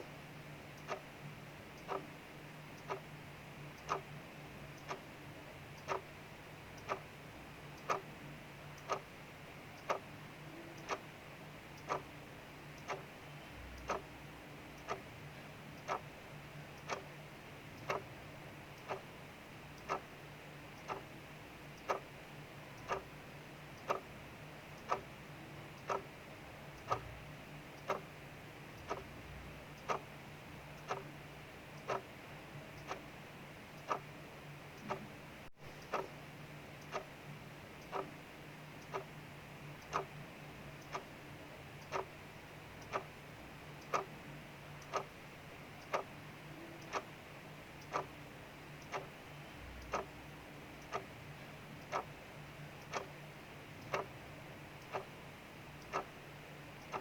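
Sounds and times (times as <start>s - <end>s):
faint low hum: 0.0s - 57.0s
mechanical clock ticking: 0.0s - 57.0s.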